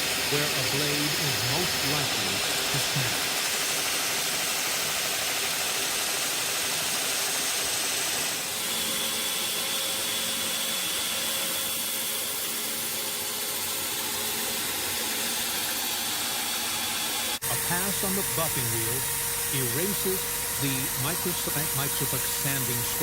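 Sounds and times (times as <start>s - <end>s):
power tool grinding steel blade: 0.0s - 23.0s.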